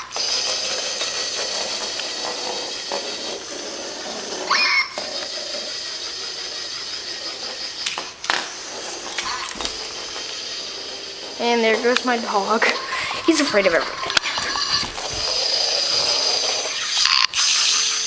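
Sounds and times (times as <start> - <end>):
toy motor whirring: 0.0 - 18.0.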